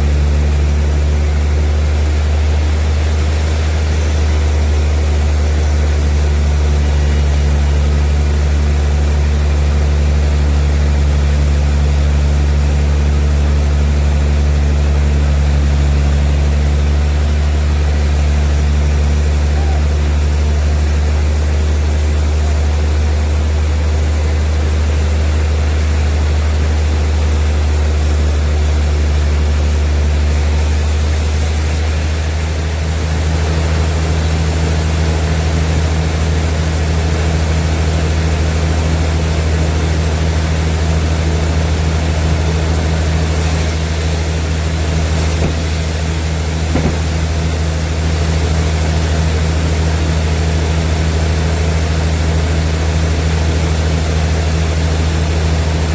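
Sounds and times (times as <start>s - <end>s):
sawmill machinery droning: 0.0s - 55.9s.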